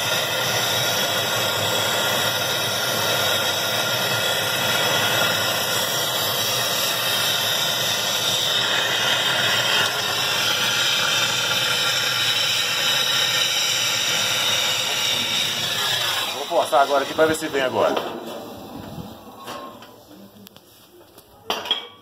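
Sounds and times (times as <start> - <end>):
blowtorch hissing: 0.0 - 19.8.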